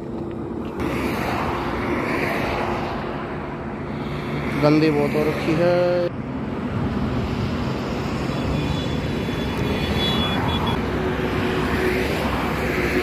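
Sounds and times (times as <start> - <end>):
traffic tyre noise: 0.0 - 13.0
car passing: 0.7 - 13.0.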